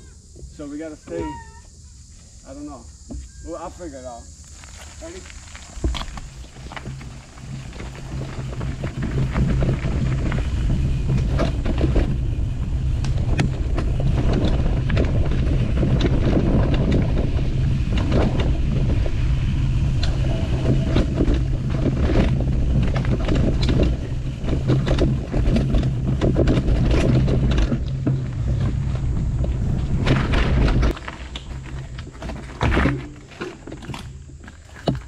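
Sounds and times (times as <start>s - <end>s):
wind rumbling on microphone: 4.3s - 35.0s
bike knocks and rattles: 4.5s - 35.0s.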